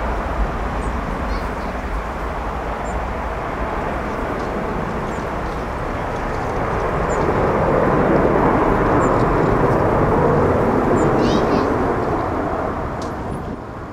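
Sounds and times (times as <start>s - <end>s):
jet engines at take-off thrust: 0.0s - 13.9s.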